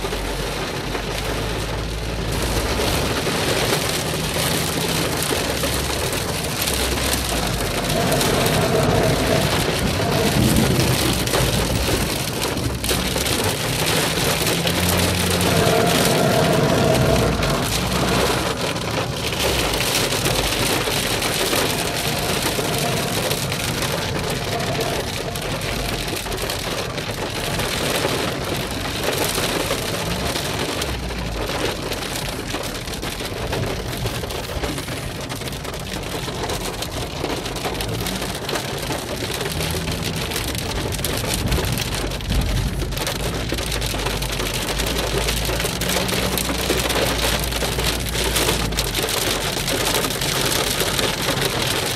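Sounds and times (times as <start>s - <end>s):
heavy rain on car roof: 0.0s - 51.9s.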